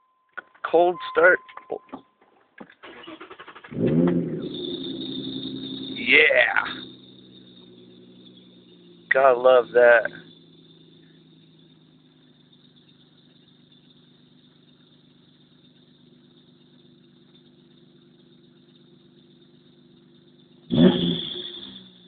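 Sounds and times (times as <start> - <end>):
car engine idling: 0.4 - 22.0
drive belt squealing: 2.6 - 22.0.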